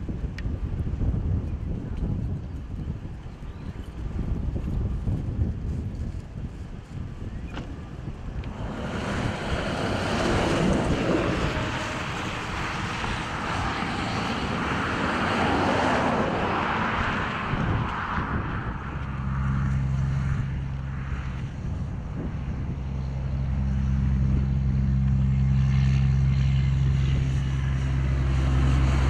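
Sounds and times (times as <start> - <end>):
steady low hum: 0.0 - 15.2, 17.0 - 29.0
wind gusting over microphone: 0.0 - 29.0.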